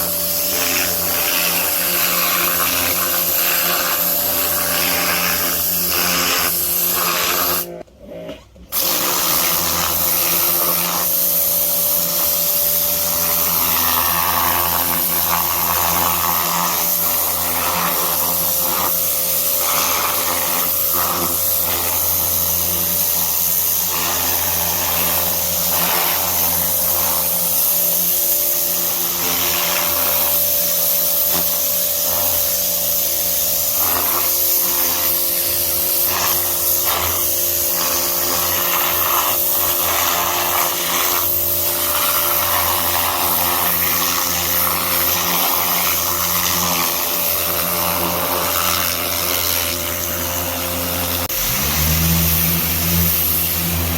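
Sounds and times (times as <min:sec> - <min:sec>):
high-pressure water spray hiss: 0:00.0 - 0:07.7, 0:08.8 - 0:53.9
pressure washer motor hum: 0:00.0 - 0:07.8, 0:08.7 - 0:53.9.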